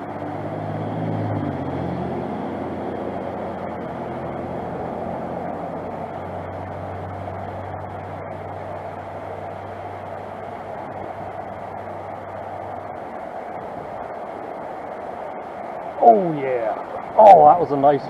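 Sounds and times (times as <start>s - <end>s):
low hum: 0.0s - 18.0s
stream water flowing: 0.0s - 18.0s.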